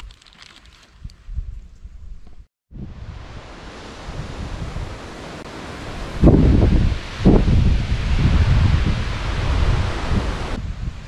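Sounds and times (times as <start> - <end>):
wind buffeting microphone: 0.9 - 11.0.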